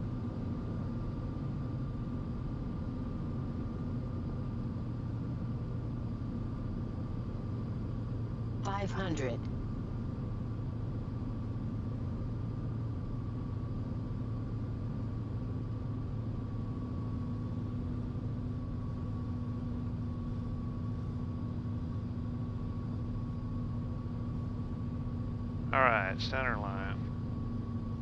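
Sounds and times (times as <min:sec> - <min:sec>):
light aircraft engine drone in cabin: 0:00.0 - 0:28.0.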